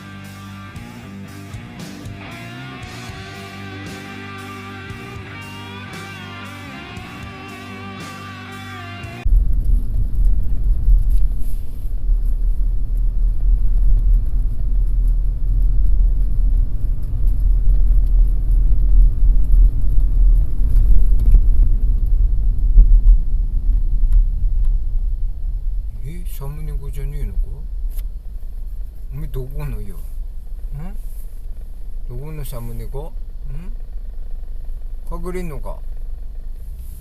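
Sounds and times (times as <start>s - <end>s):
deep rumbling noise: 0.0s - 37.0s.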